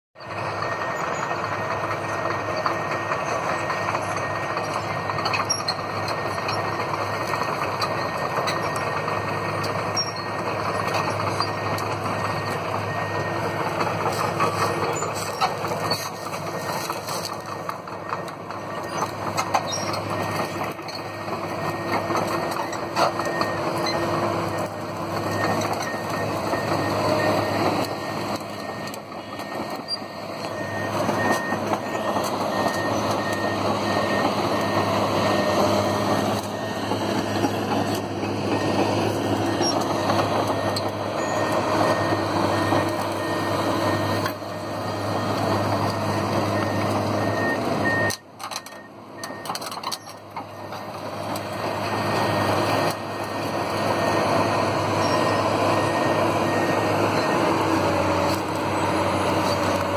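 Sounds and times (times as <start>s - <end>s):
diesel engines and hydraulics: 0.2s - 59.9s.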